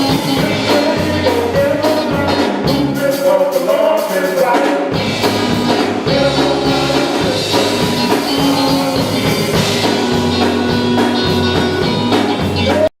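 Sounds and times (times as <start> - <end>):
bass: 0.0 - 4.2, 4.9 - 13.0
people singing: 0.0 - 11.8
drums: 0.0 - 12.9
guitar: 0.0 - 12.9.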